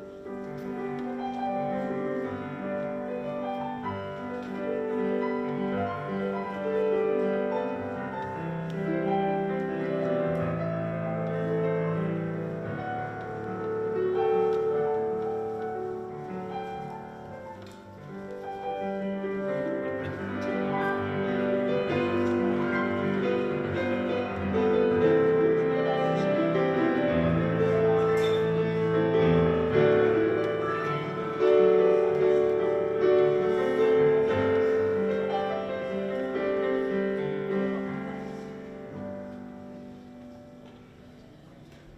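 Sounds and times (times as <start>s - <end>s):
slow piano music: 0.0s - 41.9s.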